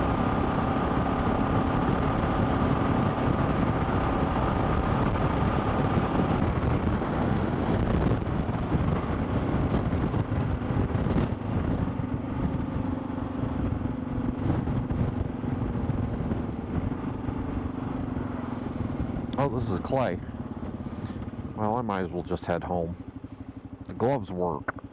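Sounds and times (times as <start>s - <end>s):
wind rush: 0.0s - 21.0s
motorcycle engine: 0.0s - 21.8s, 22.6s - 24.9s.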